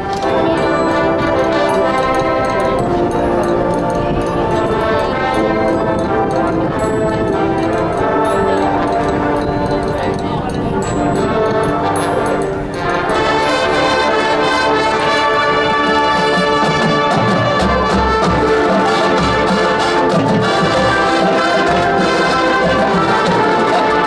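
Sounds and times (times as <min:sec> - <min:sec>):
brass holding chords: 0:00.0 - 0:24.0
drumline: 0:00.0 - 0:24.0.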